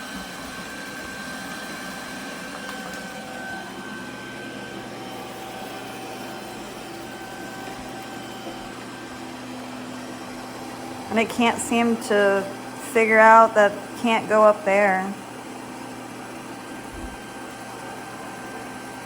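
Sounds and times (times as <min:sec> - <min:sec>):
robot vacuum whirring: 0:00.0 - 0:19.0.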